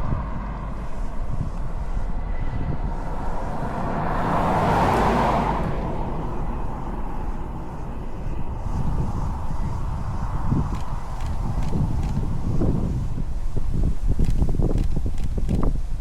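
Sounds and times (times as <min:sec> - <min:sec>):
vehicle passing by: 0:00.0 - 0:13.9
steady low rumble: 0:00.0 - 0:16.0.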